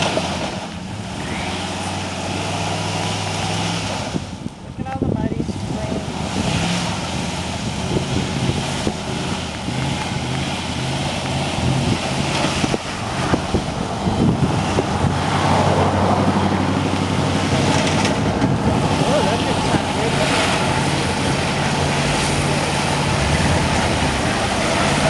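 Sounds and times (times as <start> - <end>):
pickup truck engine running: 0.0 - 25.0
wind rumbling on microphone: 0.0 - 25.0.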